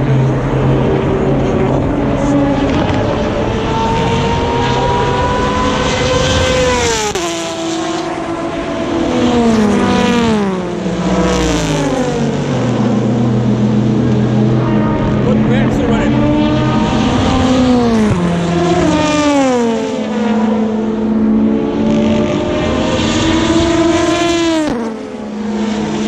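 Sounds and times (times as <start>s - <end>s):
low engine drone: 0.0s - 26.0s
race cars passing at speed: 0.0s - 26.0s.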